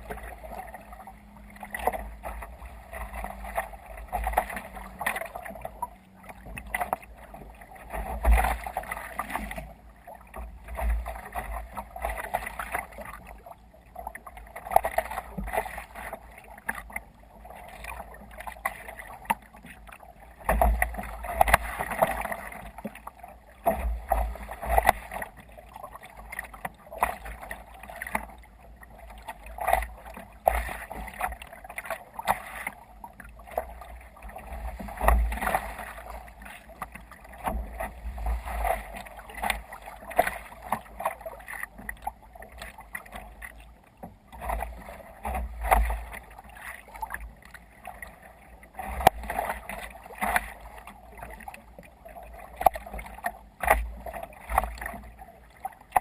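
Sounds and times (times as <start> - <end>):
water splashing against kayak hull: 0.0 - 56.0.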